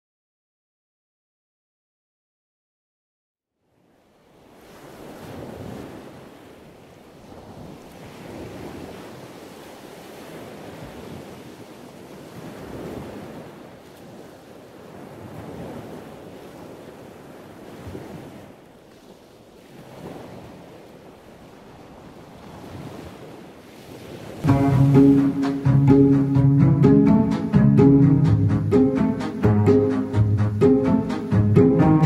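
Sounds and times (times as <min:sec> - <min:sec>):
sea waves washing: 0:04.3 - 0:32.0.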